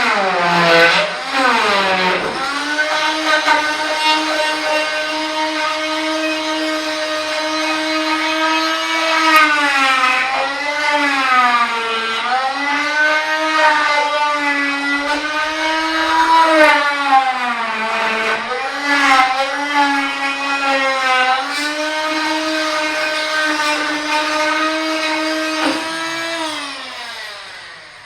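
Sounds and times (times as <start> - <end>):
oscillating multi-tool cutting: 0.0 - 28.0.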